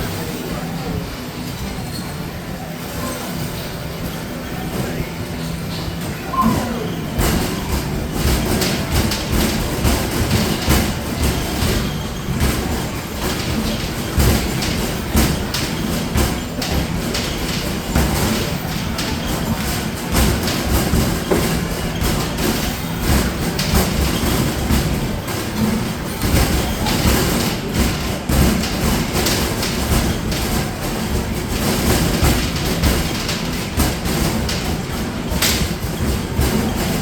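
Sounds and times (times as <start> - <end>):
arcade machine noise: 0.0 - 37.0
balls rumbling down ramp: 4.3 - 37.0.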